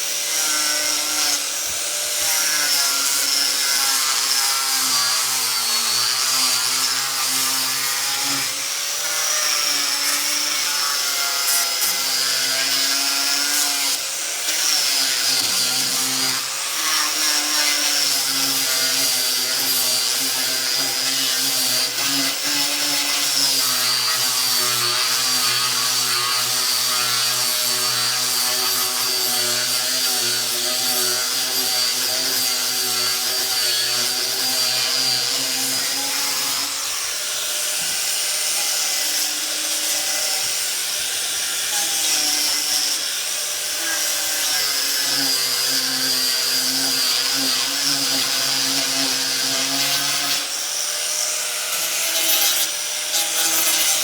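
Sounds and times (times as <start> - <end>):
angle grinder sanding wood: 0.0 - 54.0.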